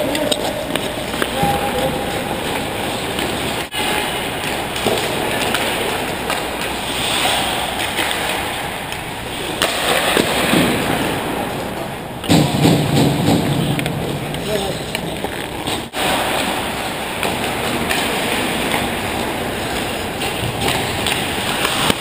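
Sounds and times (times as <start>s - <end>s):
sticks and puck clacking: 0.0s - 10.9s, 11.7s - 22.0s
skates on ice: 0.0s - 22.0s.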